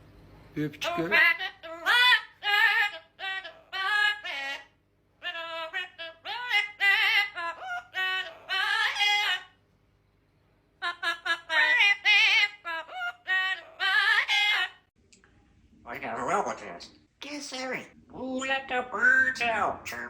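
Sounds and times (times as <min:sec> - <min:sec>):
parrot singing: 0:00.8 - 0:09.6, 0:10.8 - 0:14.9, 0:16.0 - 0:20.0.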